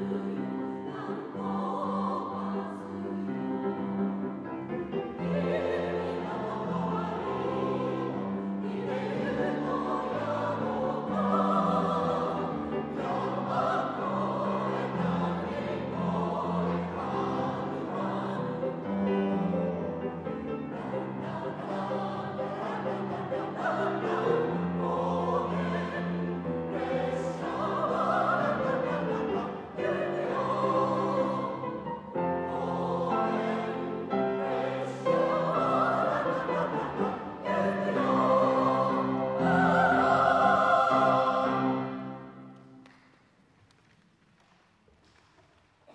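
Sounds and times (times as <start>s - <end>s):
mixed choir singing in harmony: 0.0s - 42.8s
grand piano: 0.0s - 43.4s.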